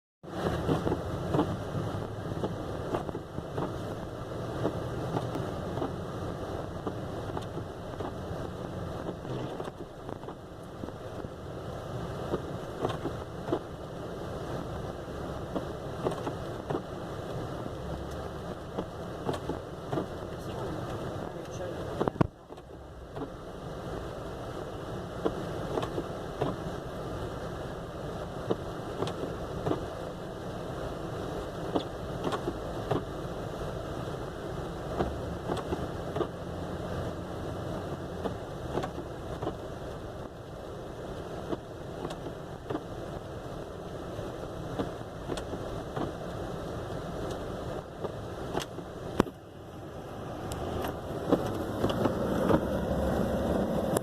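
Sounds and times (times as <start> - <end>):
vehicle driving on snowy road: 0.2 - 54.0.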